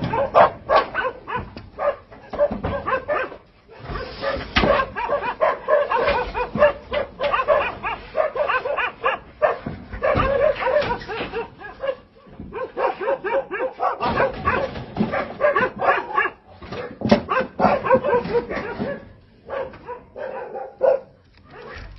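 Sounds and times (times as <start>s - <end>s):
dogs barking and yelping: 0.0s - 21.9s.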